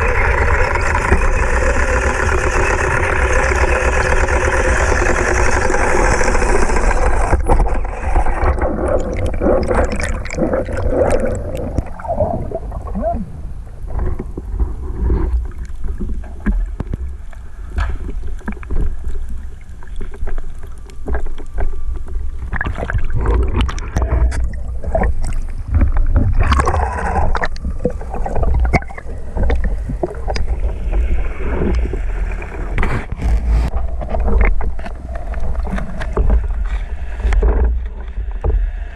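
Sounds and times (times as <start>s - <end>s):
boat motor hum underwater: 0.0s - 38.9s
low underwater rumble: 0.0s - 38.9s
water gurgling: 0.0s - 38.9s.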